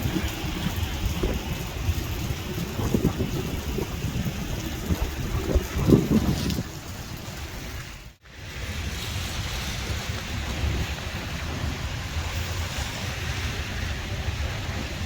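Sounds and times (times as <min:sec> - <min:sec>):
traffic on a wet road: 0:00.0 - 0:15.0
wind buffeting microphone: 0:00.0 - 0:15.0.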